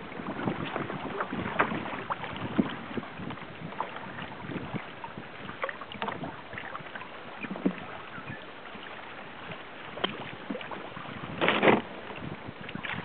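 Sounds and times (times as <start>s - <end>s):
water splashing against kayak: 0.0s - 13.0s.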